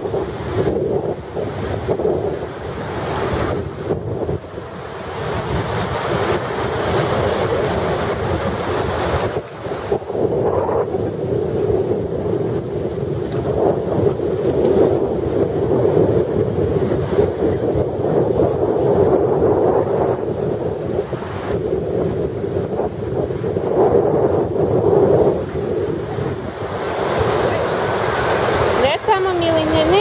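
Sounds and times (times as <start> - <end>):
small waves washing on shore: 0.0 - 30.0
wind noise on microphone: 0.0 - 30.0.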